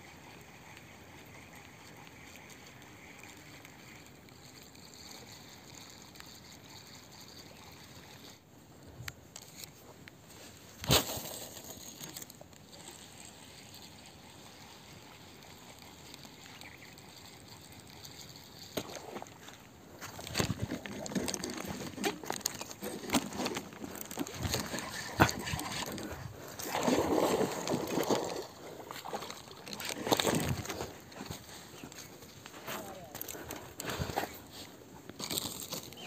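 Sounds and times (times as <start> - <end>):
faint riverside water: 0.0 - 36.0.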